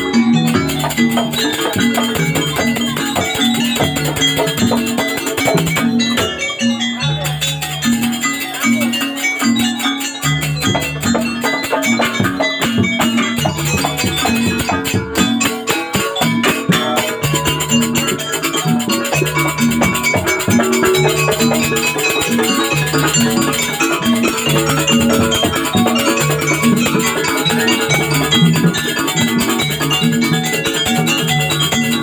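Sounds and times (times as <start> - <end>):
gamelan ensemble playing: 0.0 - 32.0.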